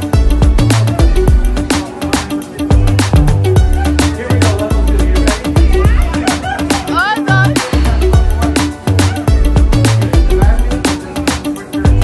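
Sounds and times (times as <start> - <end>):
upbeat music with deep bass: 0.0 - 12.0.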